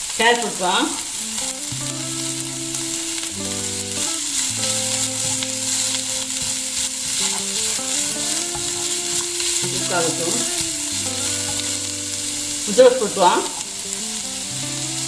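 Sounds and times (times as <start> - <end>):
vegetables sizzling in pan: 0.0 - 15.0.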